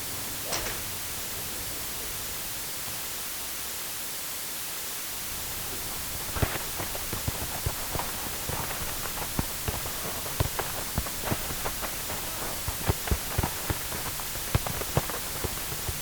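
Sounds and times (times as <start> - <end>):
steady hissing background: 0.0 - 16.0.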